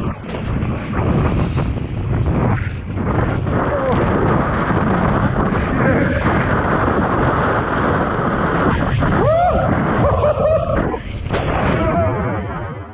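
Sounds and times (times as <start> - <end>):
breaking surf: 0.0 - 12.8
wind buffeting microphone: 0.0 - 12.9.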